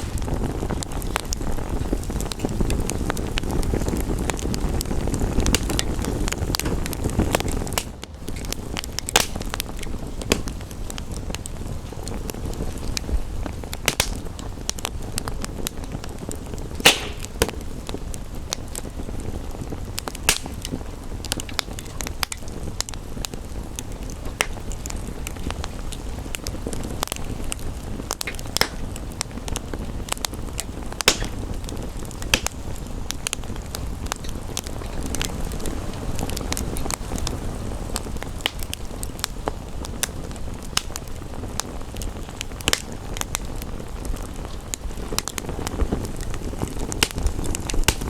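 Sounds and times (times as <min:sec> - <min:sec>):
rain and wind rushing: 0:00.0 - 0:48.0
wood fire crackling and popping: 0:00.0 - 0:48.0.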